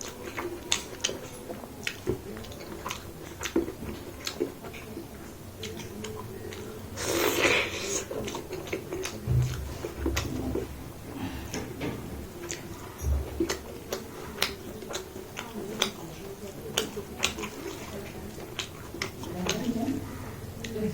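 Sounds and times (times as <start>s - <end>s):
wet chewing clicks: 0.0s - 20.9s.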